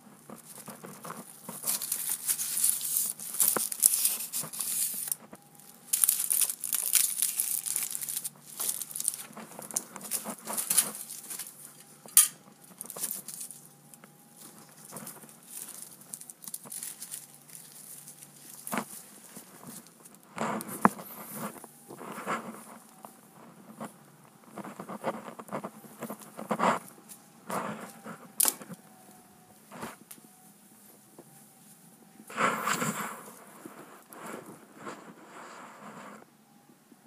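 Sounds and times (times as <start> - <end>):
paper rustling and crumpling: 0.0 - 36.3.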